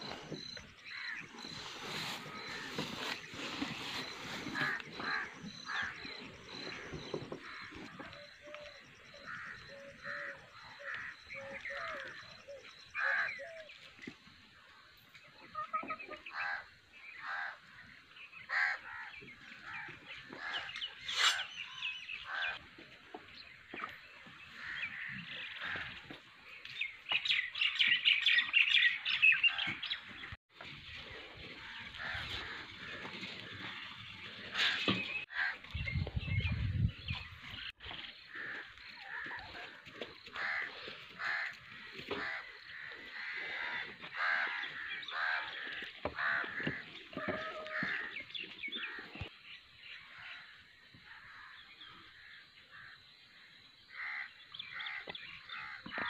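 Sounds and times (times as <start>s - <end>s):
birds calling and chirping: 0.0s - 56.0s.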